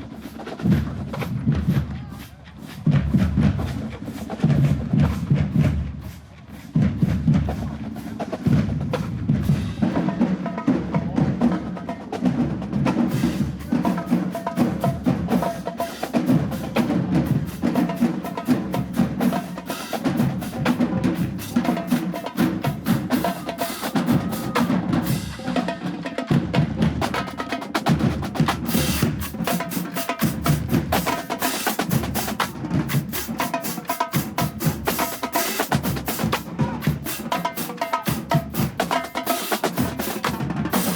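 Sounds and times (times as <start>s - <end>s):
snare and bass drum cadence: 0.0s - 40.9s.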